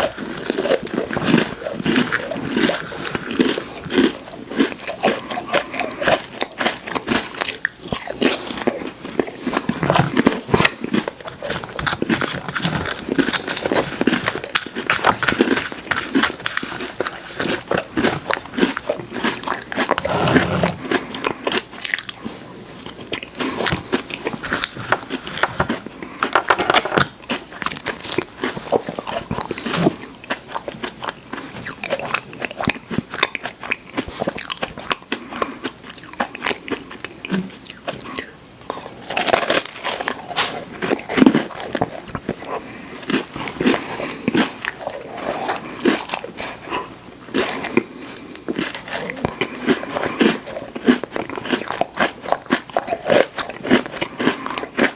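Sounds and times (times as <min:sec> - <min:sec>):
person chewing crunchy cookies: 0:00.0 - 0:54.9.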